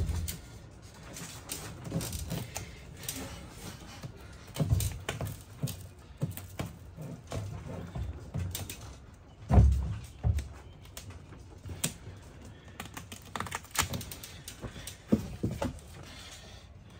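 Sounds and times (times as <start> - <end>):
taps knocks and rustles: 0.0 - 16.2.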